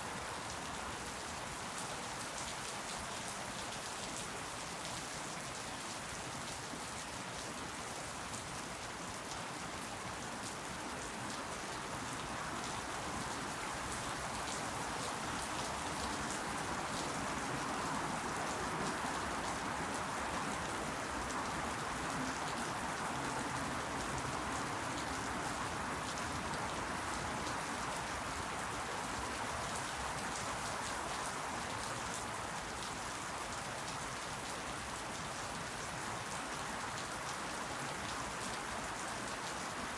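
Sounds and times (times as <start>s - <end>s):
rain pattering: 0.2s - 39.9s.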